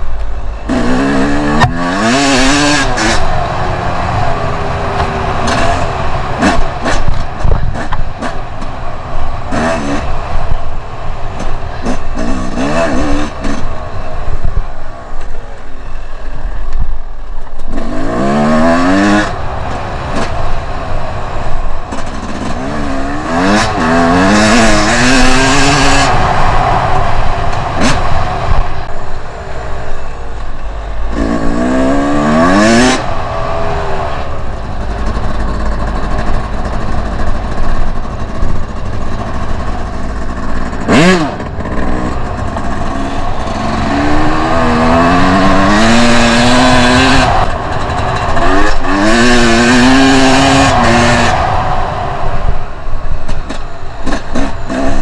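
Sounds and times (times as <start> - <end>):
two-stroke motorcycle accelerating: 0.0 - 55.0.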